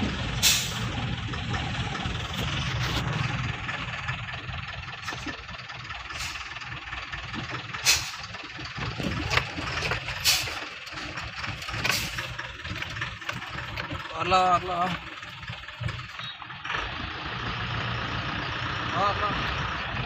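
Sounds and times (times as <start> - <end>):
road noise: 0.0 - 20.0
truck diesel engine running: 0.0 - 20.0.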